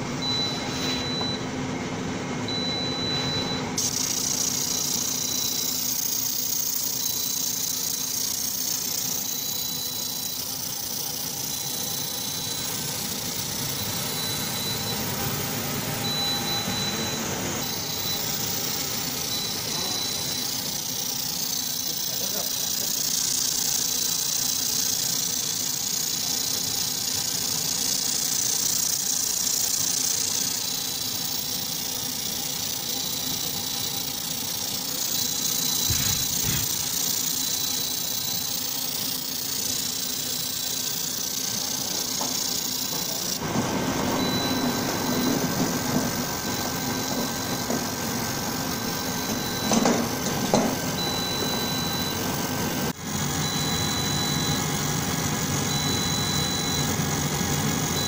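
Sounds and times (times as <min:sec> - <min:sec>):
machine hum: 0:00.0 - 0:58.0
laser engraving hiss: 0:03.7 - 0:58.0.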